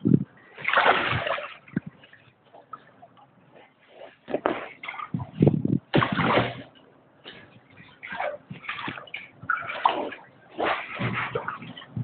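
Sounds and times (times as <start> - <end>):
water sloshing from wading: 0.0 - 12.0.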